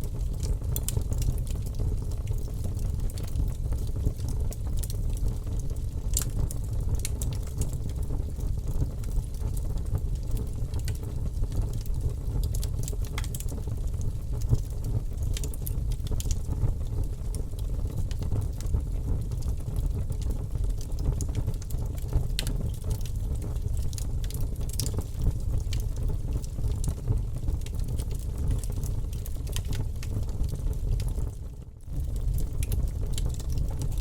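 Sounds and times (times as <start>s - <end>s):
burning wood crackles and pops: 0.0s - 34.0s
low fire rumble: 0.0s - 34.0s.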